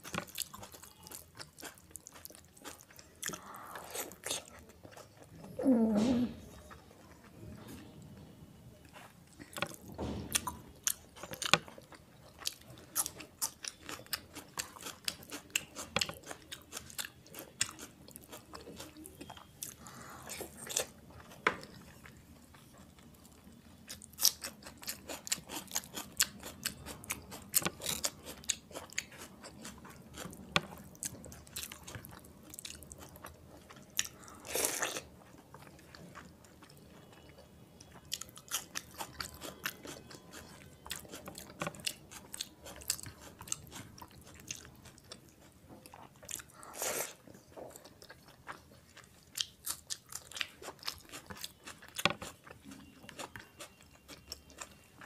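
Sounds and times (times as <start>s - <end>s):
person chewing food: 0.0s - 7.4s, 8.8s - 55.0s.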